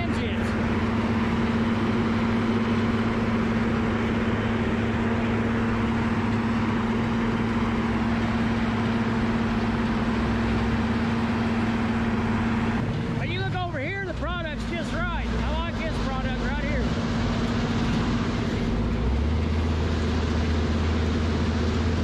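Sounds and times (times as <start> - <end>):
wood chip grinder engine drone: 0.0 - 22.0.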